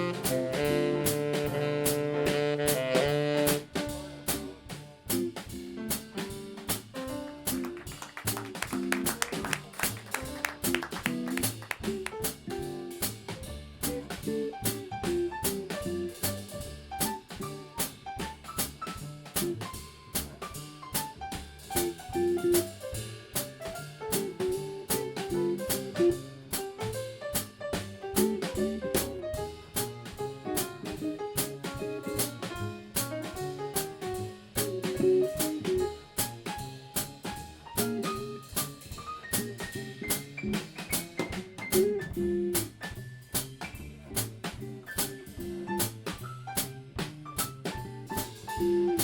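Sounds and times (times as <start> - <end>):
jazz band playing live: 0.0 - 49.0.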